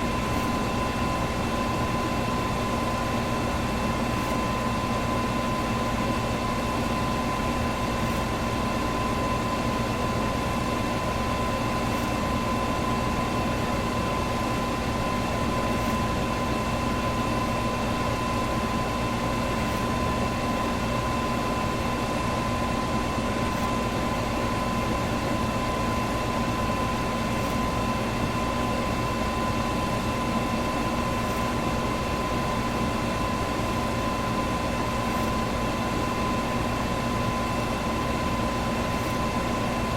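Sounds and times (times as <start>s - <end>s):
electric fan whooshing hum: 0.0s - 39.9s.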